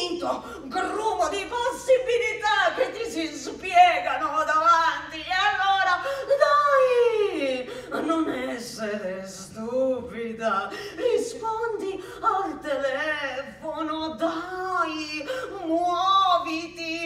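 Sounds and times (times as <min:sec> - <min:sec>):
woman vocalizing wordless phrases: 0:00.0 - 0:17.0.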